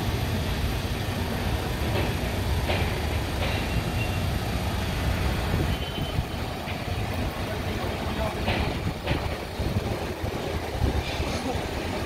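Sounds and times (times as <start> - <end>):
window-cleaning machine rumbling: 0.0 - 12.0.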